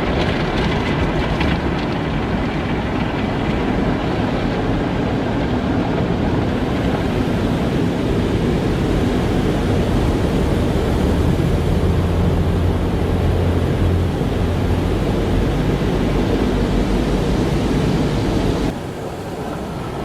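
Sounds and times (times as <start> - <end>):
car wash spraying water: 0.0 - 20.0
low hum: 0.0 - 20.0.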